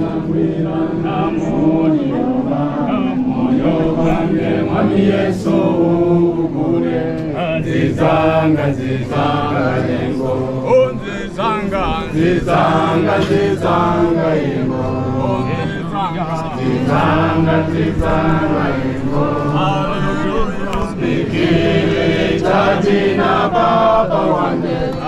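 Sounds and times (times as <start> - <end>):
group singing a hymn: 0.0 - 25.0.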